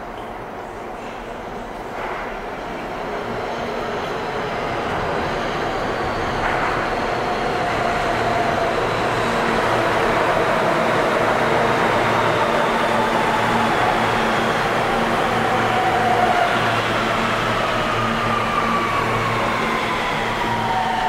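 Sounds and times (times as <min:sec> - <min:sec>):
subway train rumble and rail noise: 0:00.0 - 0:21.0.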